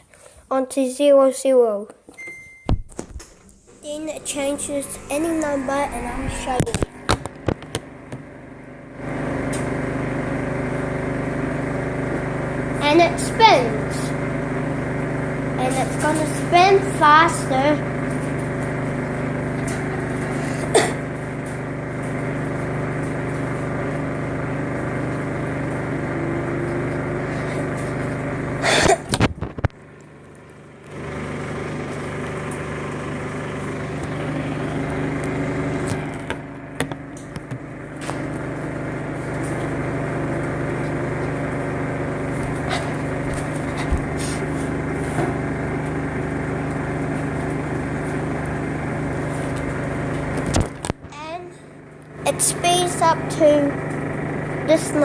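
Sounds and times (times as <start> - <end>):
washing machine spin hum: 2.2 - 55.0.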